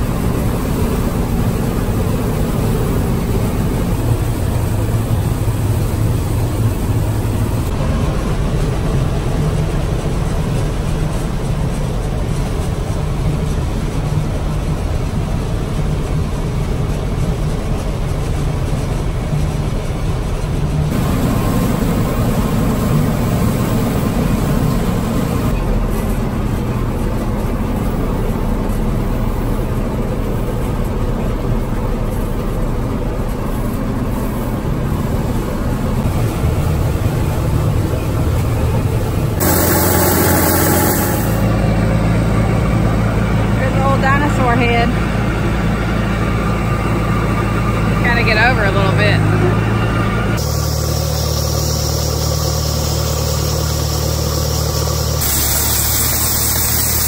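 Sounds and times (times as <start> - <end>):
combine harvester machinery drone: 0.0 - 57.0.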